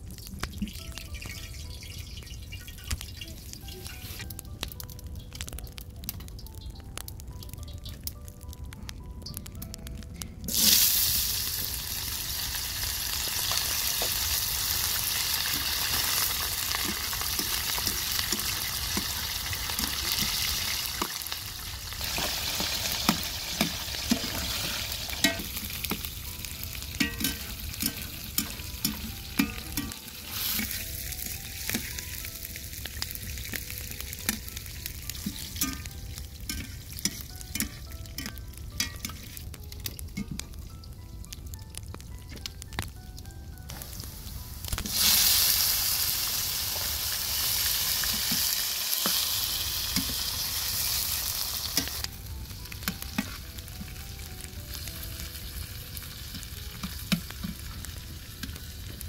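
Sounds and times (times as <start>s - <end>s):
food sizzling in hot oil: 0.0s - 8.3s, 10.5s - 59.0s
oil popping and crackling: 0.0s - 59.0s.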